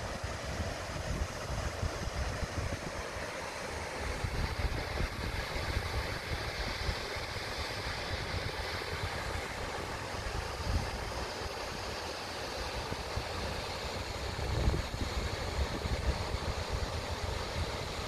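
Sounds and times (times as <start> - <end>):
waterfall: 0.0 - 18.0.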